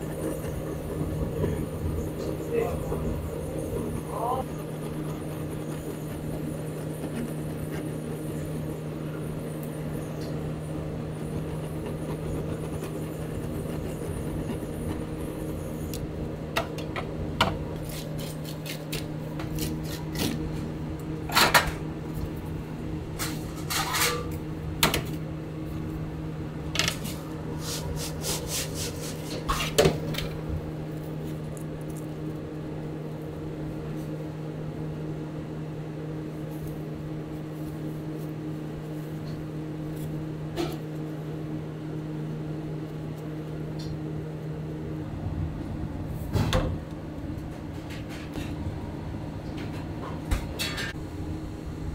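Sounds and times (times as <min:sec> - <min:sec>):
kitchen equipment humming: 0:00.0 - 0:51.9.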